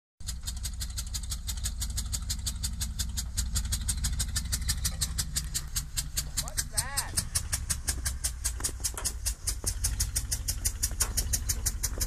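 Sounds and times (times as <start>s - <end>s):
car engine idling: 0.2s - 12.0s
sharp even engine ticking: 0.2s - 12.0s.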